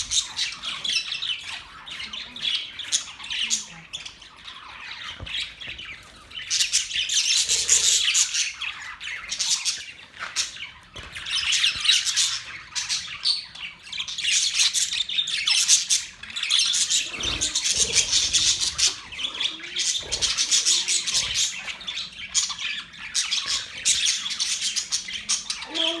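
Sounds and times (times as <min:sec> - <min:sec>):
budgerigars chirping and squawking: 0:00.0 - 0:26.0.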